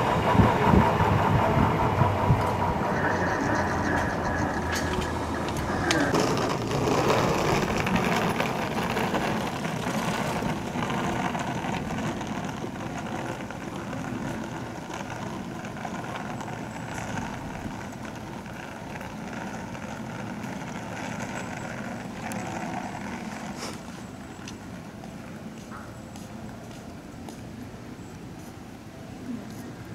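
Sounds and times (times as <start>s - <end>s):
traffic rumble: 0.0s - 29.9s.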